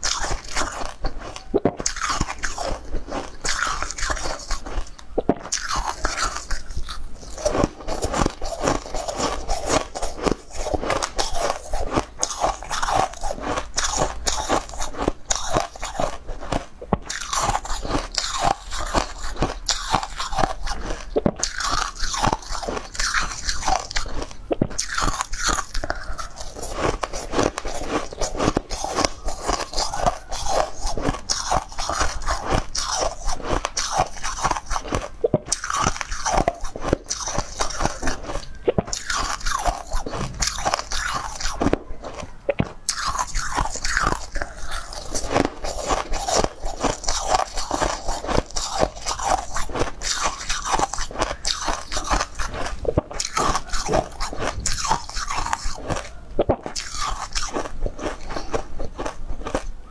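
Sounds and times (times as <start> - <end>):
crunching ice balls: 0.0 - 59.9.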